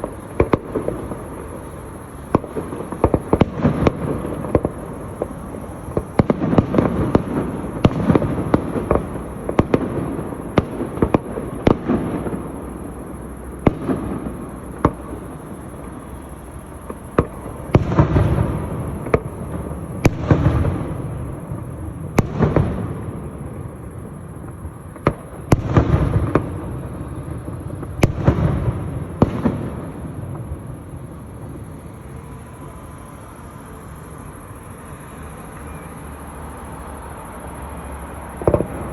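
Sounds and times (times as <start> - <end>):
fireworks booms: 0.0 - 34.2, 38.2 - 38.9
fireworks crackling: 0.0 - 38.9.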